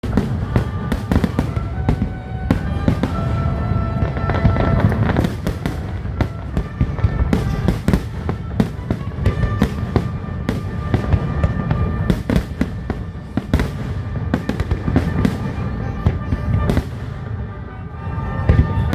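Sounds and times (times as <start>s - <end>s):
fireworks bangs and booms: 0.0s - 18.9s
music playing: 0.0s - 18.9s.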